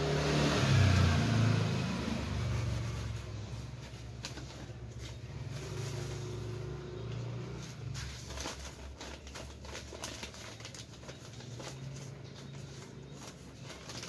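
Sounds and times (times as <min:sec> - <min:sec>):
plastic bag crinkling: 0:02.4 - 0:14.0.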